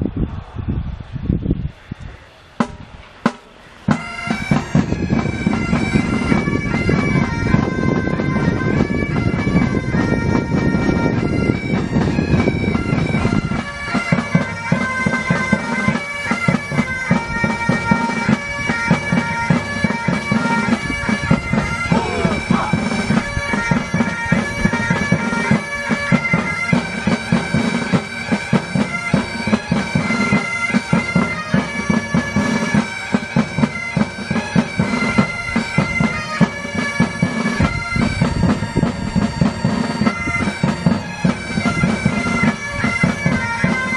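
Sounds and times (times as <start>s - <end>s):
bagpipes playing a tune: 3.9s - 43.9s.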